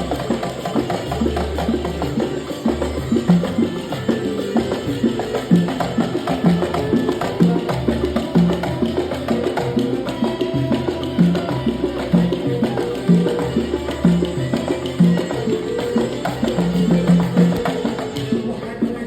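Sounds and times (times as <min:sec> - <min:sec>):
hand percussion rhythm: 0:00.0 - 0:19.0
pitched instrument notes: 0:00.0 - 0:19.0.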